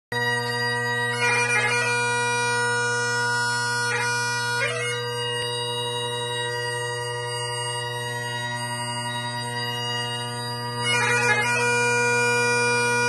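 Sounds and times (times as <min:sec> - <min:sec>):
bagpipe chanter melody: 0:00.1 - 0:13.0
bagpipe drones: 0:00.1 - 0:13.0.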